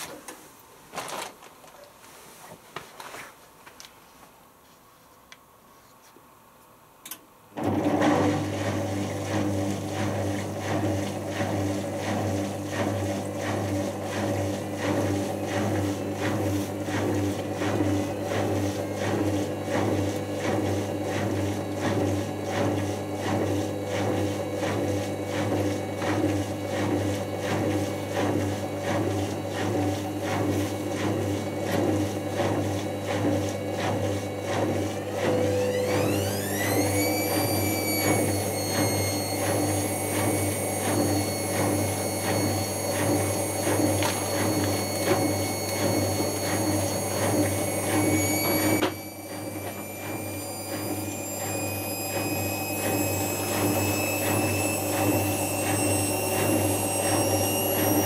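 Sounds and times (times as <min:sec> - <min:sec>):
drain pump humming and rattling: 0:07.6 - 0:58.0.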